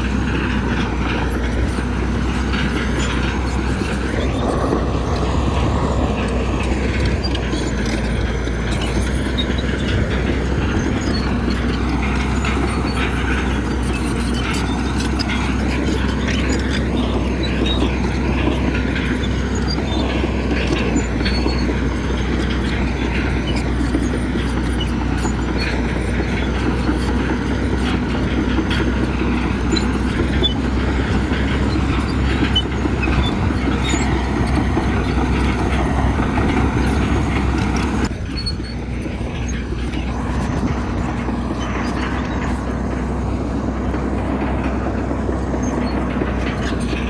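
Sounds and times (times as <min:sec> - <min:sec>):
bulldozer diesel engine running: 0:00.0 - 0:47.0
tracks clanking and rattling: 0:00.0 - 0:47.0.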